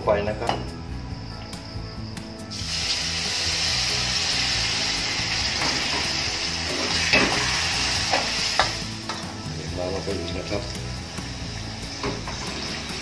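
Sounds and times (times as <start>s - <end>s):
water sizzling in hot oil: 2.5s - 13.0s.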